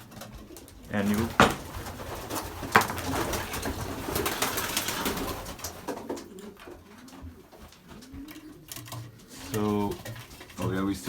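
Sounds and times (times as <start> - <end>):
pigeons cooing: 0.0 - 11.0
rustling and scuffling: 0.2 - 11.0.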